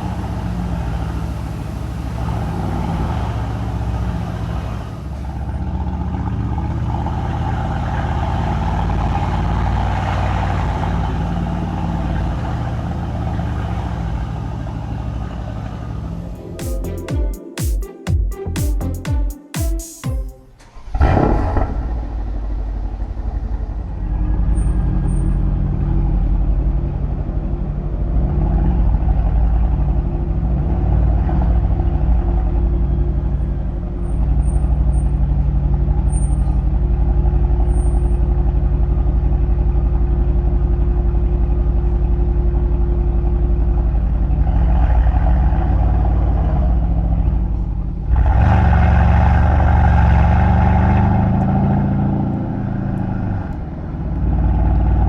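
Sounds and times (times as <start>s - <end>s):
car engine and exhaust drone: 0.0s - 16.6s, 20.4s - 55.0s.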